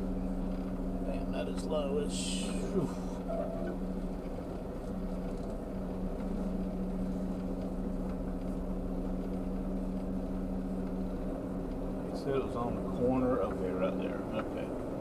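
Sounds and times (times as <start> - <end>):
truck diesel engine humming: 0.0 - 15.0.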